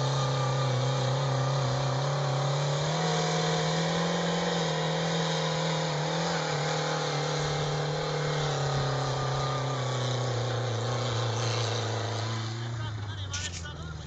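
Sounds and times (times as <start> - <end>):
buggy turbocharged engine running: 0.0 - 14.0.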